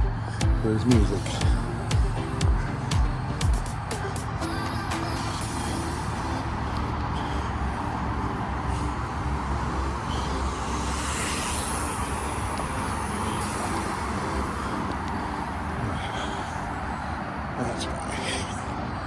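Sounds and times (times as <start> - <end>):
road traffic rumble: 0.0 - 19.0
vehicle passing by: 0.0 - 19.0.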